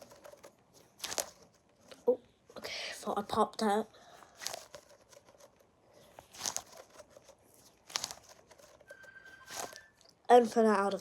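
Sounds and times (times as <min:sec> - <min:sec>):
soft crinkly rustling: 0:00.0 - 0:11.0.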